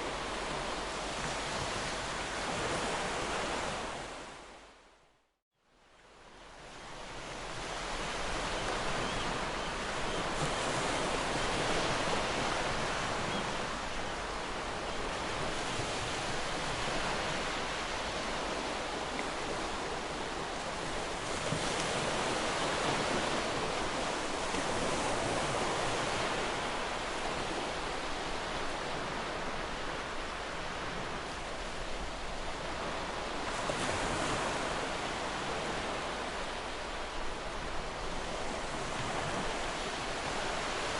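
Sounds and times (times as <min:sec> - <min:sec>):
sea waves breaking on shore: 0:00.0 - 0:04.8, 0:06.0 - 0:40.9.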